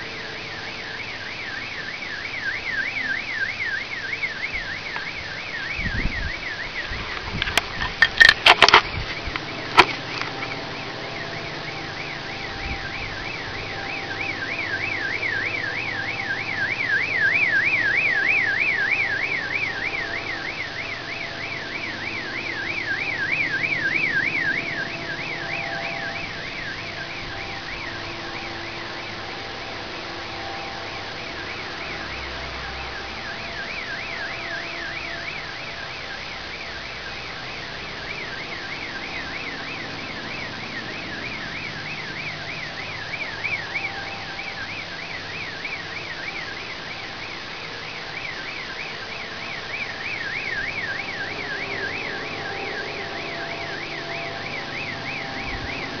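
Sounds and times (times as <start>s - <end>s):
car alarm siren warbling: 0.0s - 56.0s
steady background drone: 0.0s - 56.0s.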